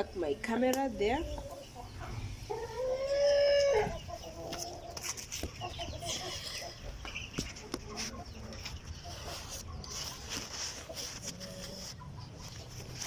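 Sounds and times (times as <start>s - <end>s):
chickens clucking softly: 0.8s - 13.0s.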